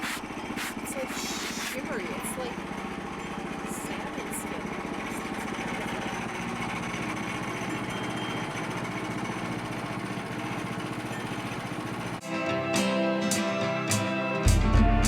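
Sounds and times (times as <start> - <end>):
small gasoline engine running: 0.0 - 12.3.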